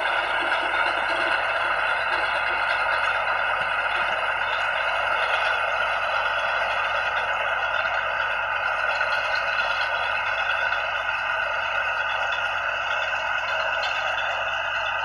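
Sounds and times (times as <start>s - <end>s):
combine harvester rattling: 0.0s - 15.0s.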